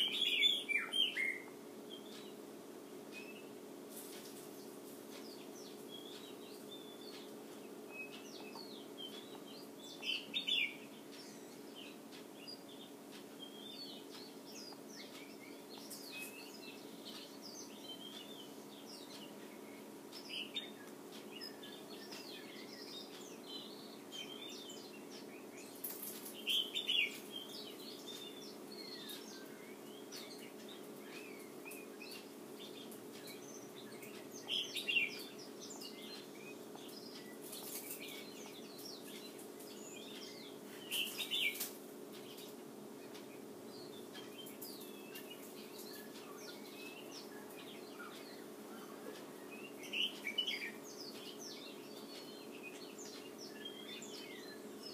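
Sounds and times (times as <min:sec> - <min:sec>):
songbirds chirping: 0:00.0 - 0:54.9
steady low hum: 0:00.0 - 0:54.9.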